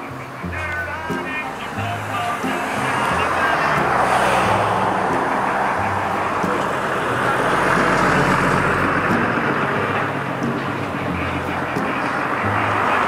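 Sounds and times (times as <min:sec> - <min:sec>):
street traffic: 0:00.0 - 0:13.0
vehicle passing: 0:00.0 - 0:13.0.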